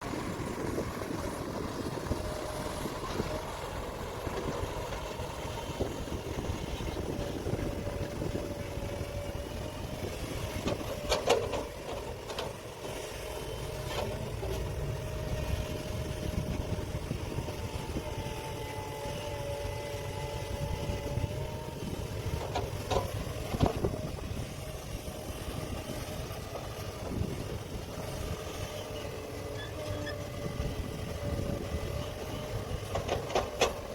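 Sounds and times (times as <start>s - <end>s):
diesel machinery engine rumble: 0.0s - 33.9s.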